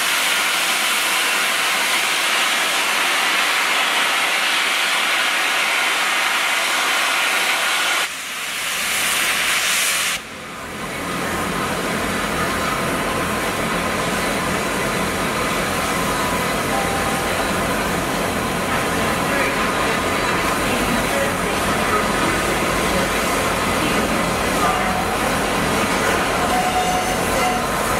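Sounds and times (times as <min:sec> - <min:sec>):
steam locomotive hissing steam: 0:00.0 - 0:27.9.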